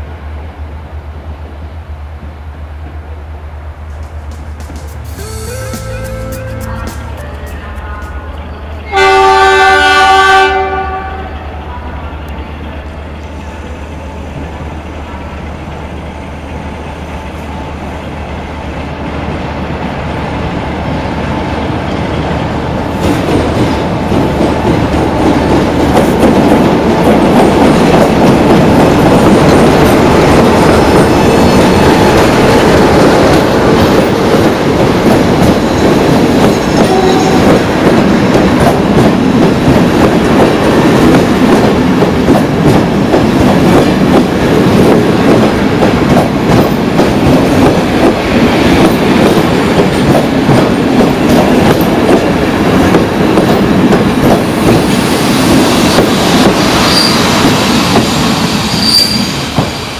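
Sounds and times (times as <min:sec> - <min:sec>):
passenger train passing close by: 0:00.0 - 0:59.9.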